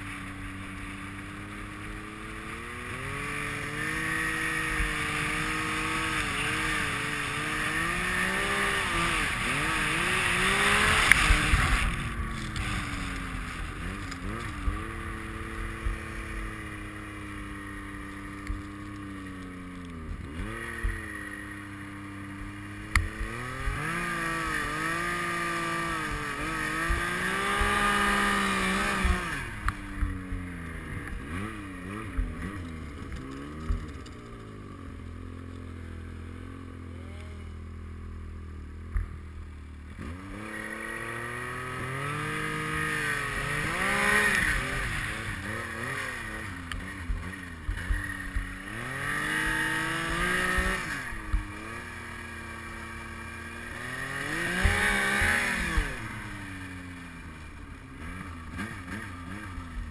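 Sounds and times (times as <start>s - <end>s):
snowmobile engine revving: 0.0s - 39.0s, 39.6s - 59.9s.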